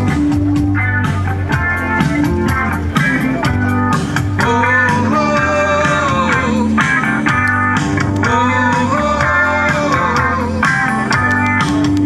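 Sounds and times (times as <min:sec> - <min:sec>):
rock music with guitar and bass: 0:00.0 - 0:12.0.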